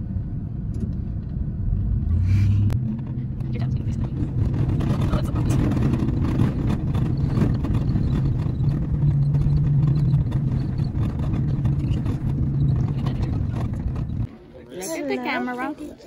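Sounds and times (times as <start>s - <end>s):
vehicle cabin engine and road drone: 0.0s - 16.0s.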